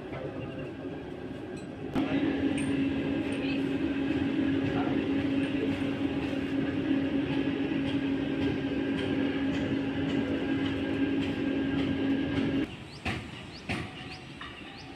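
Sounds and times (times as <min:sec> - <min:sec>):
heavy machinery running: 0:00.0 - 0:14.9.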